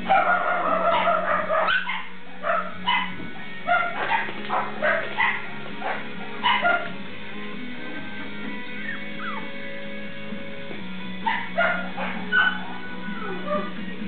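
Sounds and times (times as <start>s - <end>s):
puppies yipping: 0.0s - 7.0s, 7.9s - 9.9s, 11.2s - 14.0s.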